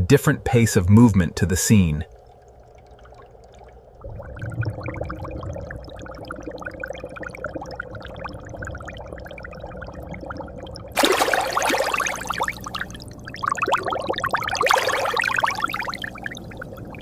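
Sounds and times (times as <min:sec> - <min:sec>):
steady hum: 0:00.0 - 0:17.0
water bubbling and gurgling: 0:02.1 - 0:17.0.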